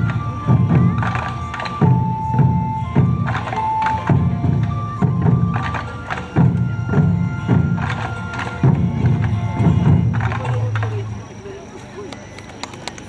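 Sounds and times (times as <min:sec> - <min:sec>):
held melody line: 0:00.0 - 0:11.1
taiko drum beats: 0:00.0 - 0:11.3.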